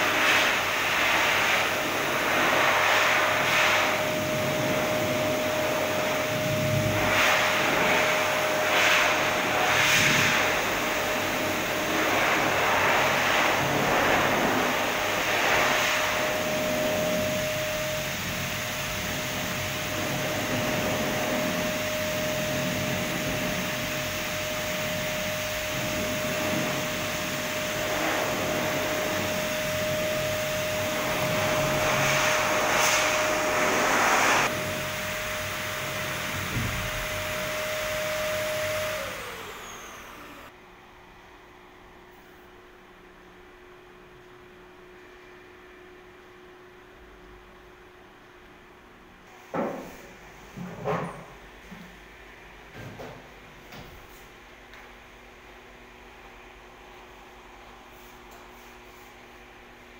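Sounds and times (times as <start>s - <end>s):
blower dryer running: 0.0s - 41.0s, 49.2s - 59.9s.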